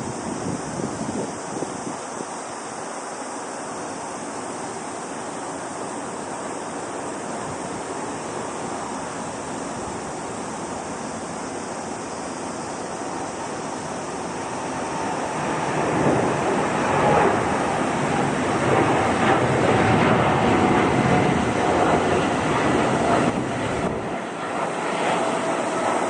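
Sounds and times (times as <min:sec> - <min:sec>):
jet engines roaring: 0:04.0 - 0:26.0.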